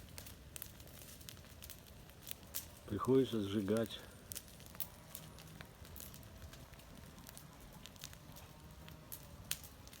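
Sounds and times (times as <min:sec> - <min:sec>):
bonfire crackling and popping: 0:00.0 - 0:10.0.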